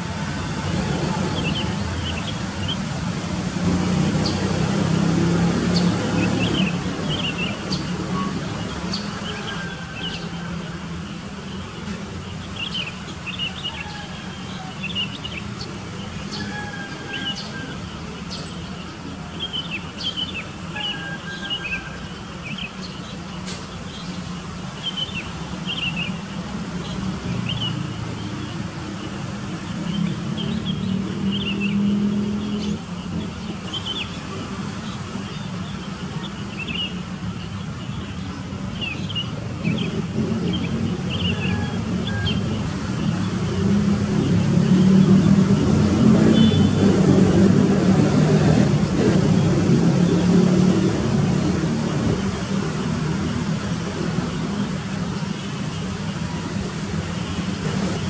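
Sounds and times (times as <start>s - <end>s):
birds chirping: 0.0s - 58.0s
distant road traffic rumble: 0.0s - 58.0s.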